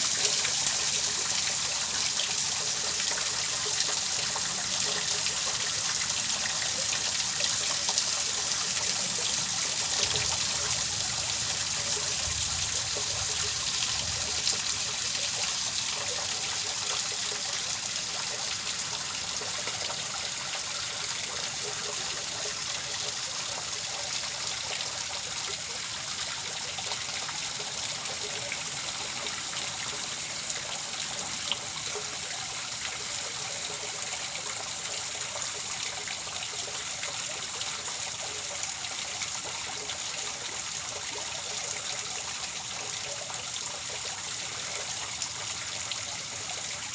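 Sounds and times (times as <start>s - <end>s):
trickling water: 0.0s - 46.9s.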